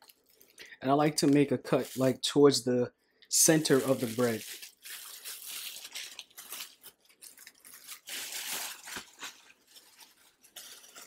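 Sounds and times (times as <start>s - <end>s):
plastic bag crinkling and rustling: 0.0s - 2.2s, 3.4s - 11.0s.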